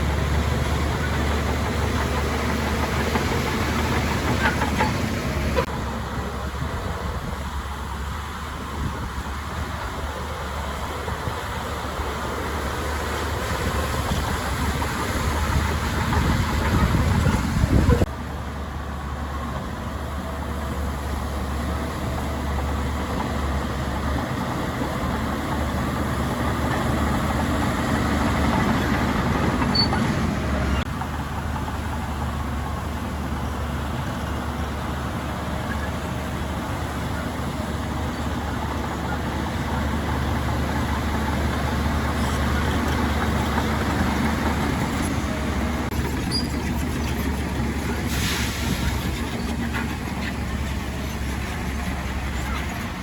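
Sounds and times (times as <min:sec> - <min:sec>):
heavy diesel machine engine hum: 0:00.0 - 0:53.0.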